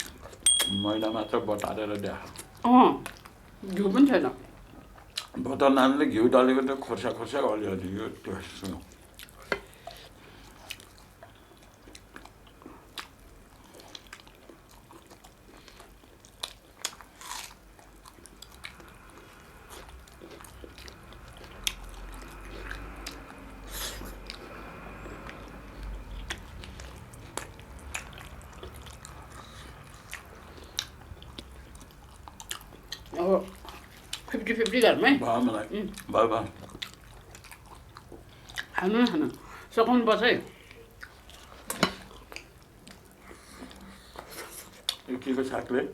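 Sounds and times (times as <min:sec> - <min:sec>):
person chewing food: 0:00.0 - 0:05.5, 0:08.4 - 0:39.7, 0:40.5 - 0:45.1.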